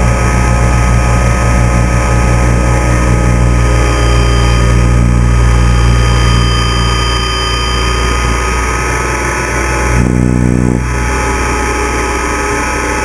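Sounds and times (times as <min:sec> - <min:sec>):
rc helicopter motor and rotor drone: 0:00.0 - 0:13.0.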